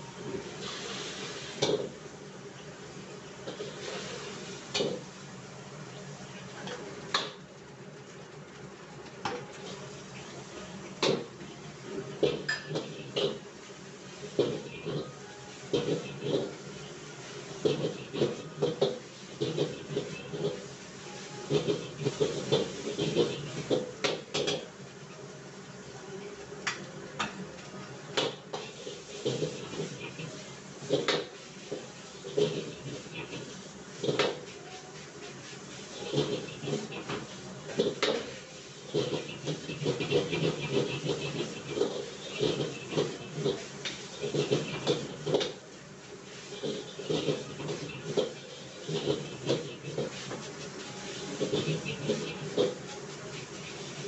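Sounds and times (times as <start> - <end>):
steady frying hiss: 0.0 - 54.0.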